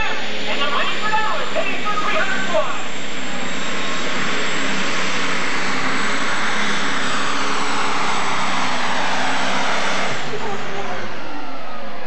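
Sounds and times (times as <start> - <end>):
diesel engine roaring under load: 0.0 - 12.0.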